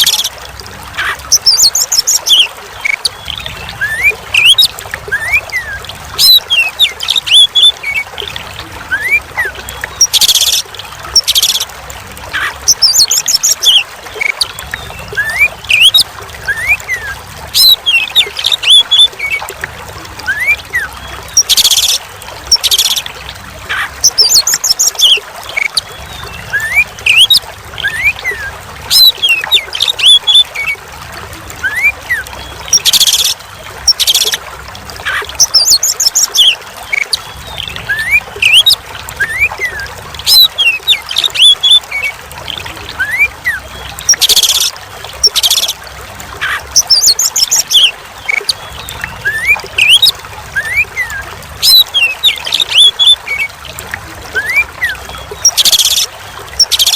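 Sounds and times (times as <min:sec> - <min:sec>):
trickle of running water: 0:00.0 - 0:56.9.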